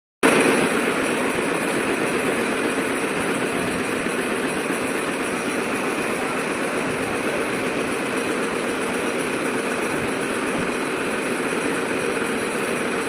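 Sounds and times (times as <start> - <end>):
wire bending machine running: 0.2 - 13.0.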